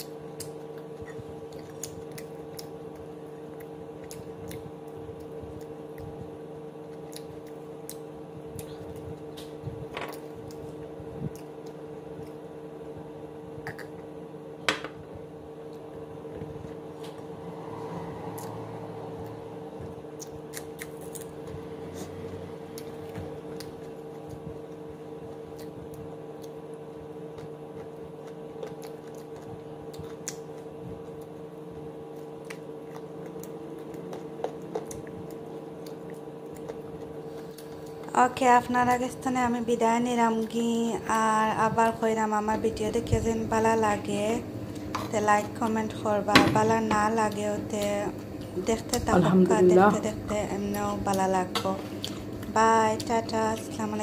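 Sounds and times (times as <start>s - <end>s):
chewing and squishing food: 0.0s - 14.2s, 18.0s - 46.1s, 46.7s - 49.3s, 50.0s - 54.0s
steady electrical hum: 0.0s - 54.0s.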